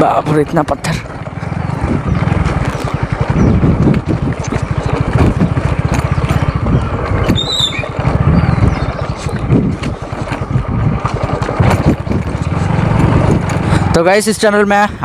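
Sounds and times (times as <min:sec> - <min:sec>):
bike knocks and rattles: 0:00.0 - 0:13.9
motorcycle engine running: 0:00.0 - 0:15.0.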